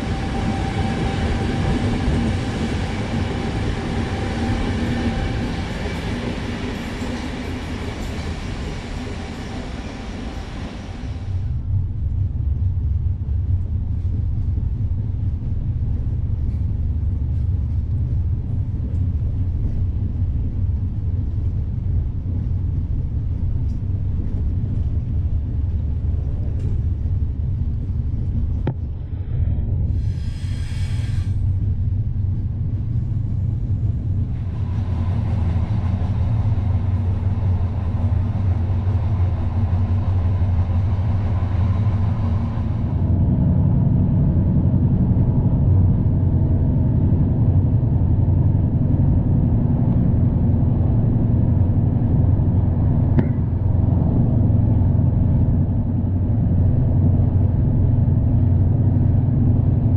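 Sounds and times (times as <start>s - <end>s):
train coach rumble from inside: 0.0s - 59.9s.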